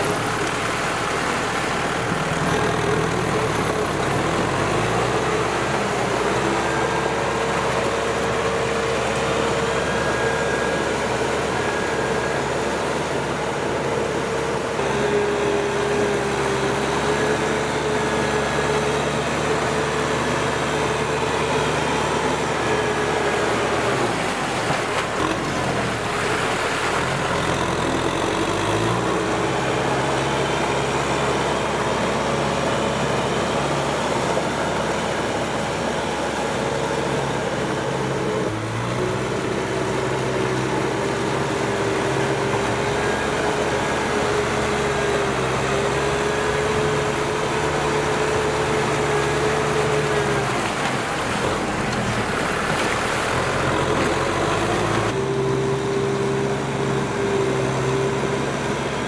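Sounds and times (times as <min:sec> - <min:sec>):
mud and water splashing: 0:00.0 - 0:59.0
tractor diesel engine running: 0:00.0 - 0:59.0.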